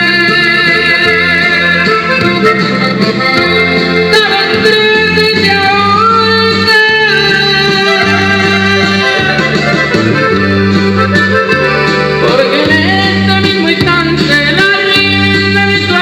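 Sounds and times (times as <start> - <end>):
accordion melody: 0.0 - 16.0
moving bass line: 0.0 - 16.0.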